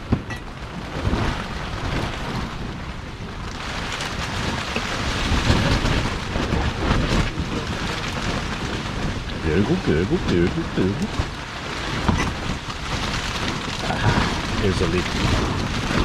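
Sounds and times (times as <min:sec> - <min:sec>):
gusting wind: 0:00.0 - 0:16.0
heavy rain: 0:00.0 - 0:16.0
wind rumbling on microphone: 0:00.0 - 0:16.0.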